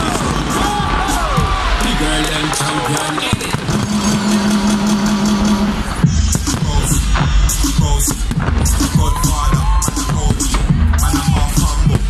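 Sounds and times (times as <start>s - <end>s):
firework bangs: 0.0s - 12.0s
music with heavy bass and vocals: 0.0s - 12.0s.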